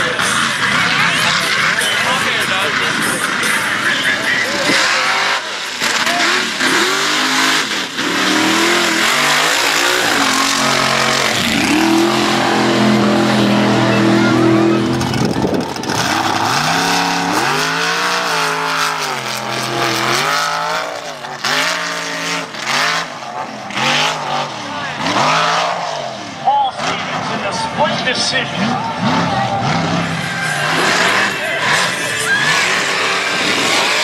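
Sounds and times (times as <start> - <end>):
truck engines revving: 0.0 - 34.0.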